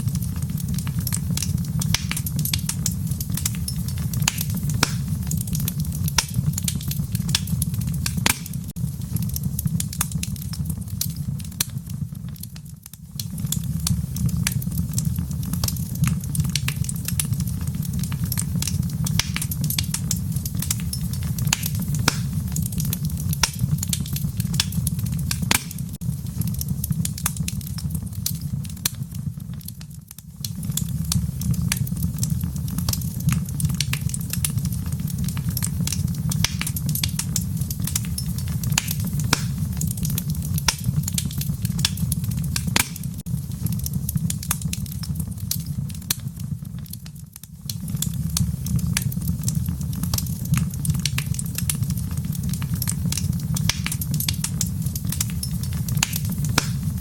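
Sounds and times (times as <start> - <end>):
flames rumbling: 0.0 - 57.0
wood fire popping and snapping: 0.0 - 57.0.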